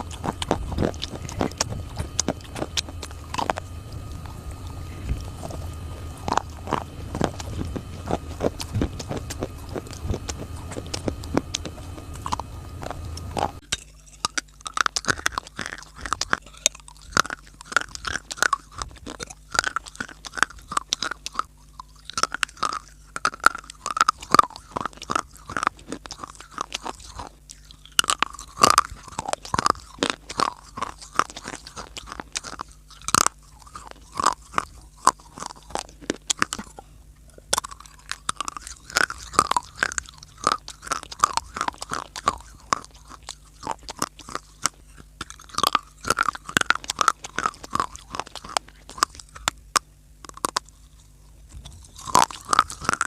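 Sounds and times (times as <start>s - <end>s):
chewing hard dry clay: 0.0s - 53.0s
low background hum: 0.0s - 53.0s.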